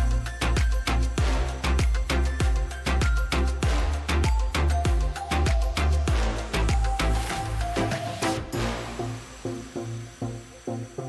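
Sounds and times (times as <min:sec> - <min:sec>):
drum beat: 0:00.0 - 0:08.9
deep bass: 0:00.0 - 0:10.2
held synth notes: 0:00.0 - 0:11.0.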